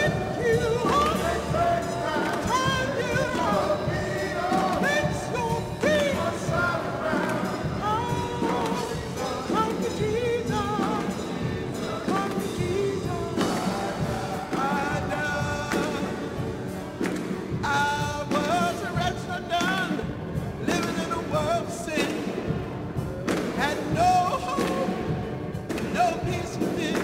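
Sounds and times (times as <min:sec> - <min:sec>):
person singing gospel: 0:00.0 - 0:27.0
piano accompaniment: 0:00.0 - 0:27.0.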